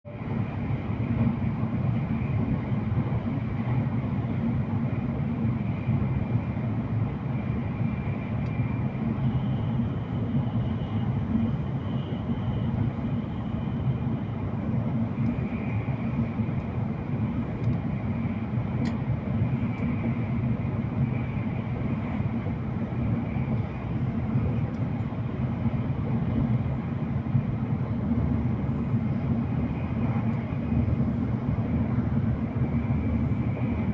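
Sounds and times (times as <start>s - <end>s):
train rumble of wheels and air: 0.1s - 33.9s.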